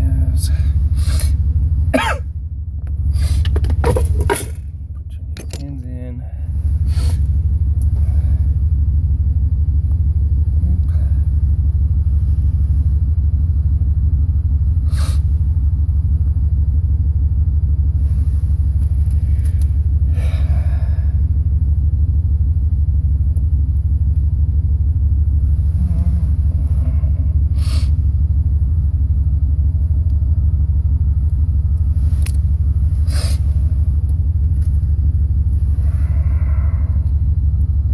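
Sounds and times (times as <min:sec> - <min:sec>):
low rumble: 0:00.0 - 0:37.9.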